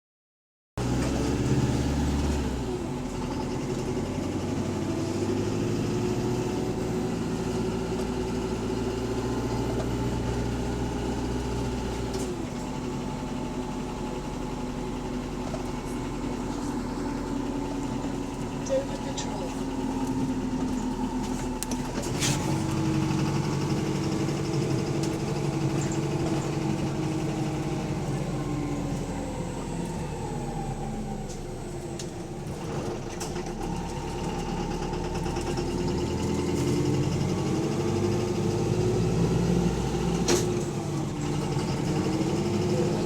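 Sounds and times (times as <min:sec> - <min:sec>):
bus engine knocking: 0:00.8 - 0:43.0.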